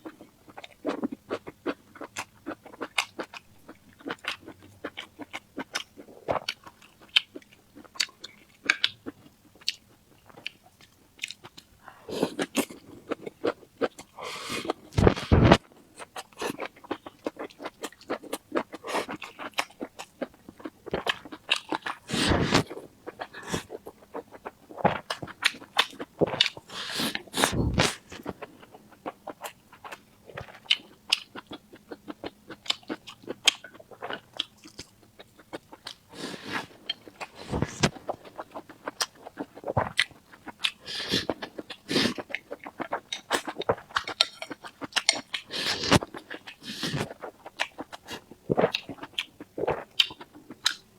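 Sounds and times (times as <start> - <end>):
person chewing and crunching: 0.0 - 50.9.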